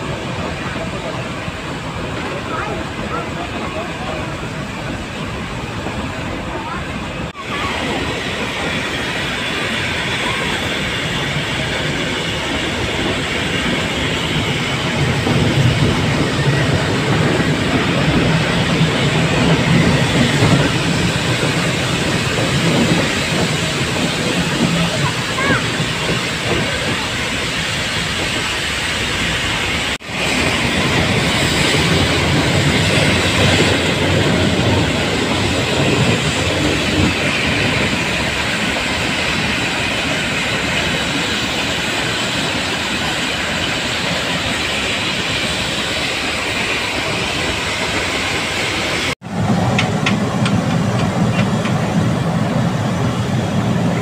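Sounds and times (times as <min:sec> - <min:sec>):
steam locomotive hissing steam: 0:00.0 - 0:54.0
train running on tracks: 0:00.0 - 0:54.0.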